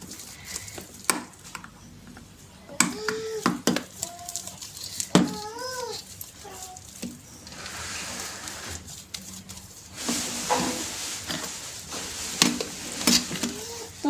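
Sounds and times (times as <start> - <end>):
slime squishing: 0.0 - 14.0.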